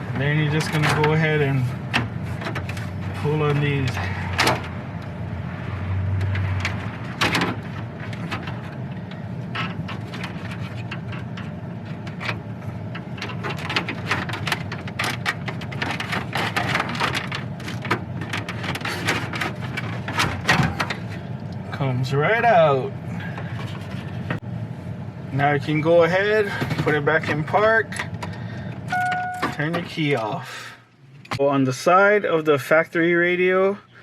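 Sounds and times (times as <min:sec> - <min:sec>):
steady low hum: 0:00.0 - 0:31.4.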